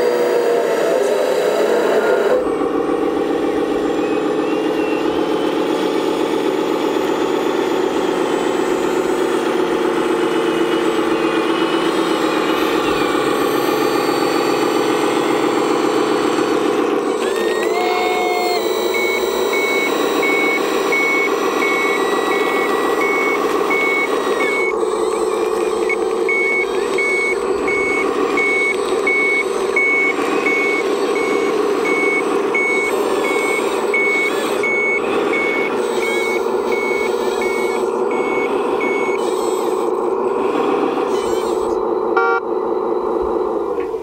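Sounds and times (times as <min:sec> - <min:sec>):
simulated diesel engine running: 0:00.0 - 0:44.0
reversing beeper: 0:00.2 - 0:44.0.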